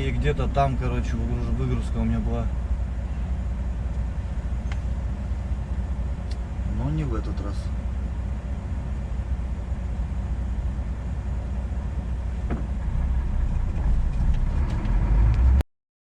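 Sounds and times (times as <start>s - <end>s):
road noise: 0.0s - 15.6s
truck diesel engine rumble: 0.0s - 15.6s.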